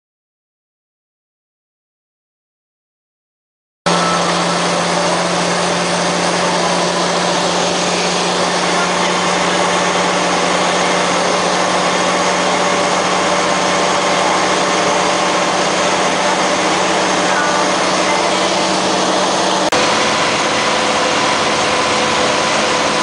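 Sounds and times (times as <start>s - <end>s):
truck diesel engine droning: 3.9s - 23.0s.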